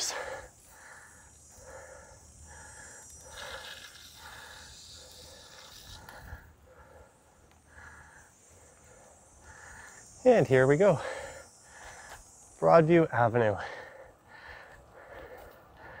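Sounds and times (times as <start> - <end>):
person breathing hard: 0.0 - 10.2, 11.0 - 12.4, 13.5 - 16.0.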